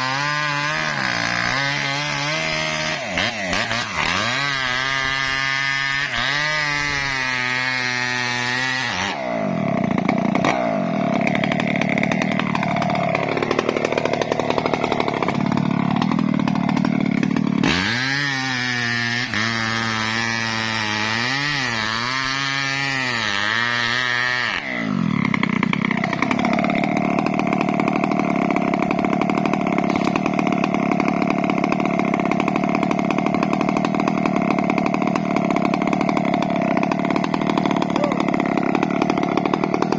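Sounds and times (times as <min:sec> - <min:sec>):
chainsaw cutting wood: 0:00.0 - 0:39.9
chainsaw engine revving: 0:00.0 - 0:39.9.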